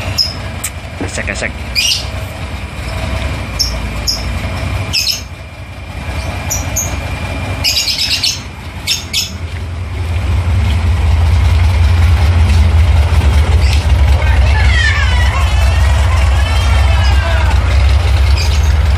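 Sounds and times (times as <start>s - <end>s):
birds chirping: 0.0s - 18.9s
car engine idling: 0.0s - 18.9s.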